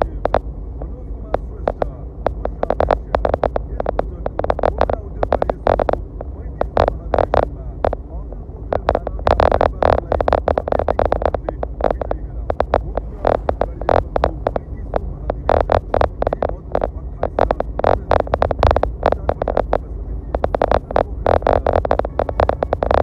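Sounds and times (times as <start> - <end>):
beat with deep bass: 0.0 - 23.0.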